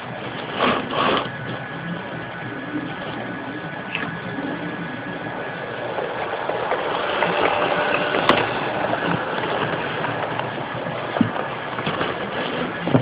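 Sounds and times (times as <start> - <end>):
model train motor whir: 0.0 - 13.0
wheels clicking on rails: 0.0 - 13.0.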